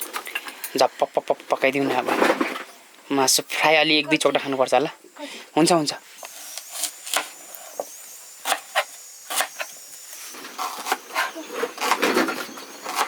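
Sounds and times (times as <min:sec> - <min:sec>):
faint steady fire hiss: 0:00.0 - 0:11.1.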